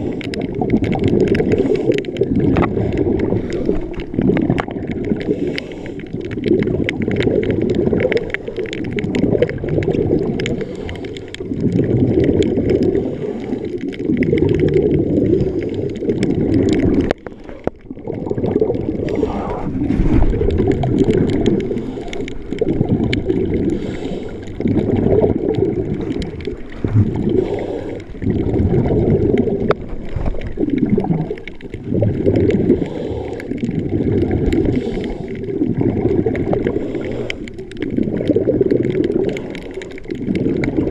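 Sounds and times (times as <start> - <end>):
faint crackling clicks: 0.0 - 40.9
muffled underwater water sloshing: 0.0 - 40.9.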